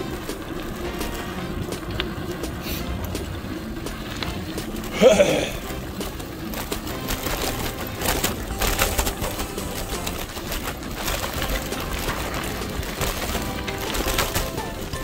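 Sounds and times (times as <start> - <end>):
low rumble: 0.0 - 14.4
bicycle tyres rolling on gravel: 0.0 - 15.0
bike rattling: 0.0 - 15.0
stones crackling: 0.0 - 15.0.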